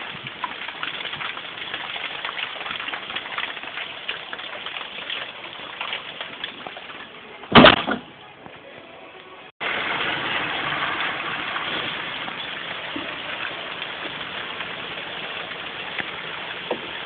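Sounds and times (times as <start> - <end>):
hailstones pattering: 0.0 - 7.2, 9.6 - 17.0.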